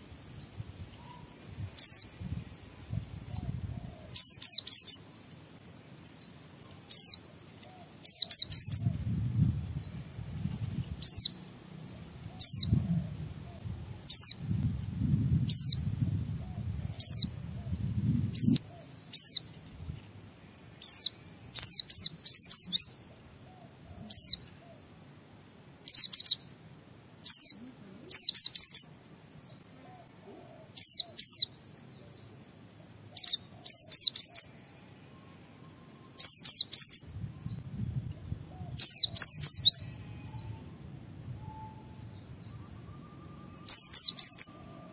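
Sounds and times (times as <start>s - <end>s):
bird chirping: 0.2s - 10.0s, 11.0s - 19.6s, 20.8s - 44.9s.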